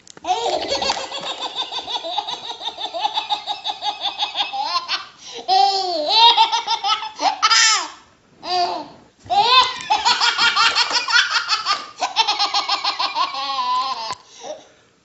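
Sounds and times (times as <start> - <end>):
baby laughing: 0.2 - 14.2.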